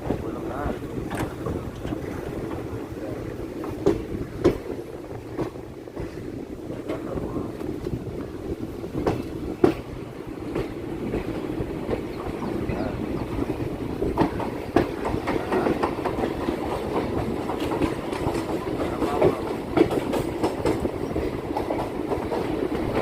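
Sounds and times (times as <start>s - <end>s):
electric train rumbling: 0.0s - 23.0s
wheels clattering on track: 0.0s - 23.0s.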